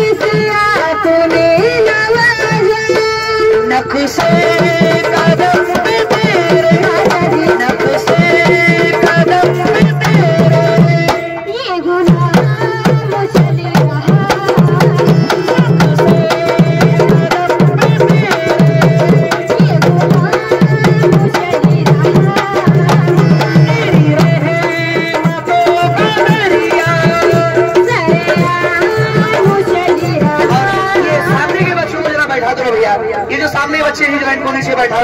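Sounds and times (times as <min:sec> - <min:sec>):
dholak drums: 0:00.0 - 0:35.0.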